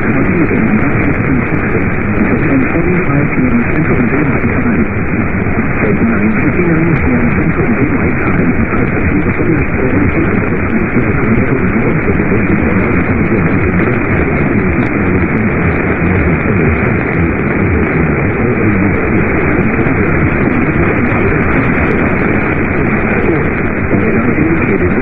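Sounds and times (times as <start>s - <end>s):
loud radio static: 0.0s - 25.0s.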